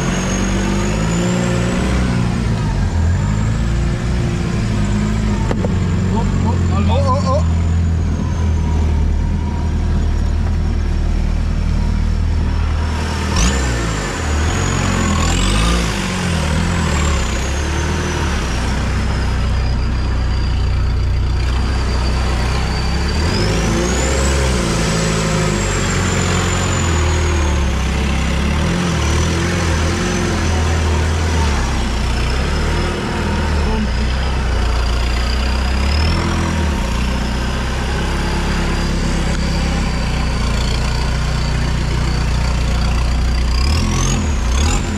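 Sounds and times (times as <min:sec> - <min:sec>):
off-road engine under load: 0:00.0 - 0:44.9.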